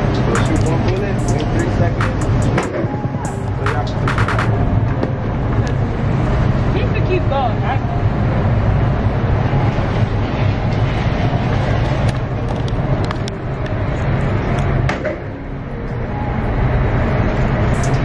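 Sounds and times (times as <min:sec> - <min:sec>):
ventilation drone: 0:00.0 - 0:18.0.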